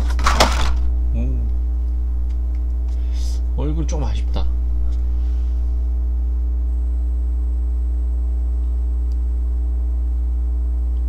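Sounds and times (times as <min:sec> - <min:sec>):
mains hum: 0:00.0 - 0:11.0.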